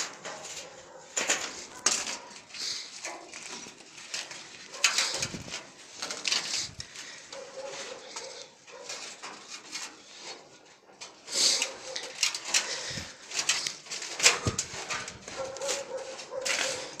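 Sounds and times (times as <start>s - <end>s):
snow crunching on metal stair: 0.0s - 17.0s.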